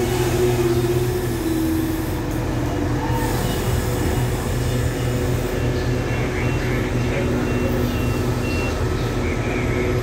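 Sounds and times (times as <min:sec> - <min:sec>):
train coaches rolling past: 0:00.0 - 0:10.0
train machinery hum: 0:00.0 - 0:10.0.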